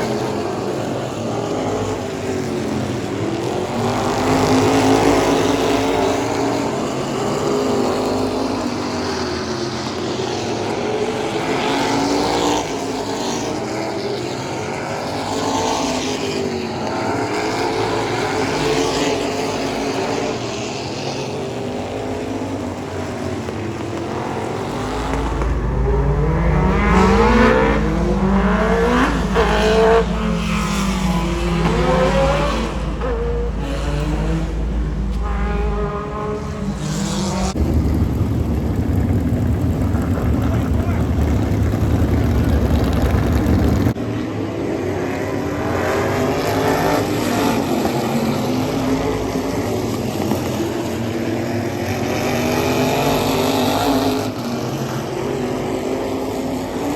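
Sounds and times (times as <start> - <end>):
car passing with deep rumble: 0.0 - 56.9
race car engines accelerating: 0.0 - 56.9.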